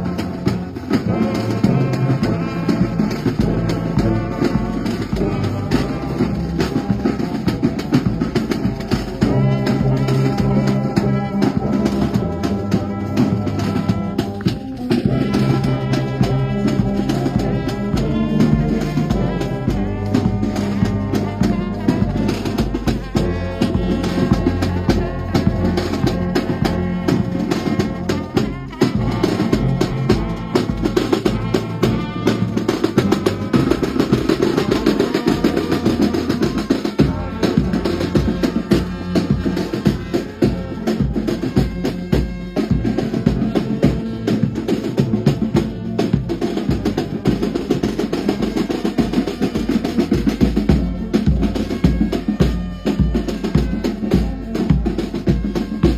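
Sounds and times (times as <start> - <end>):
brass band playing: 0.0 - 55.9
steady drum beat: 0.0 - 55.9.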